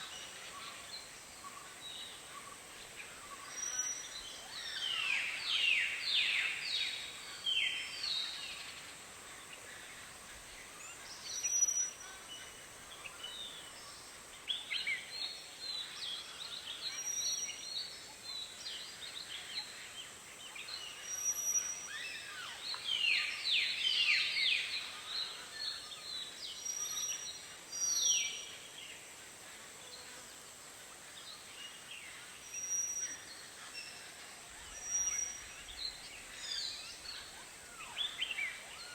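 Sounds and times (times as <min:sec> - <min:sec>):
steady high hiss: 0:00.0 - 0:38.9
tropical birds chirping: 0:00.0 - 0:38.9.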